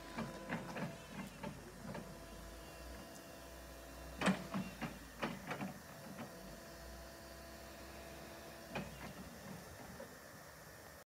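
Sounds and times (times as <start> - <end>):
hydraulic pump motor hum: 0.0 - 10.8.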